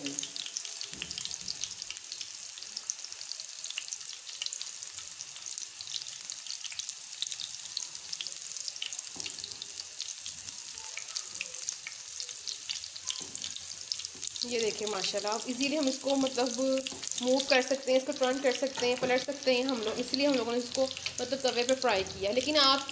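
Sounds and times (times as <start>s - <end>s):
frying sizzle with crackles: 0.0s - 22.9s.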